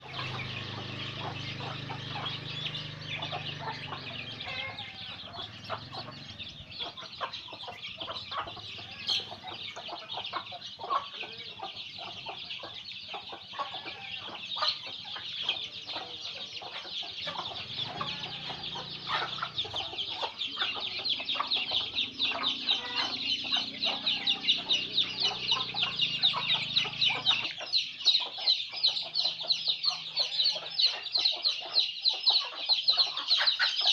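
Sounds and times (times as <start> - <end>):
chickens clucking and calling: 0.0 - 33.9
high-pitched chirping chorus: 0.0 - 33.9.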